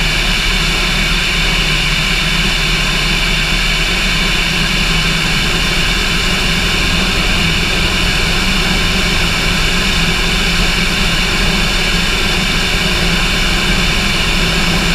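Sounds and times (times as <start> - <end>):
light aircraft engine droning: 0.0 - 14.9.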